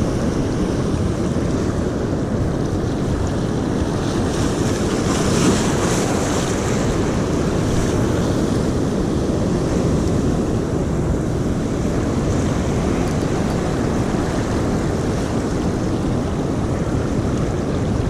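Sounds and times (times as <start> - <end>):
surf washing against rocks: 0.0 - 18.0
wind buffeting microphone: 0.0 - 18.0.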